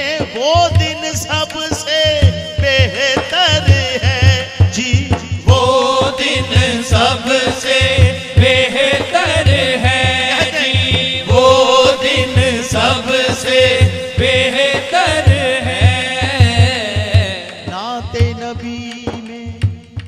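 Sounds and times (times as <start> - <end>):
frame drum beat: 0.0 - 20.0
men singing devotional song: 0.0 - 20.0.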